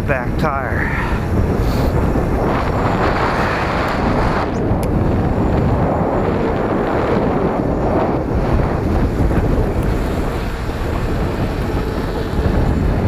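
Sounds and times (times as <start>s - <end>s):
bike rolling noise: 0.0s - 13.0s
wind on microphone: 0.0s - 13.0s.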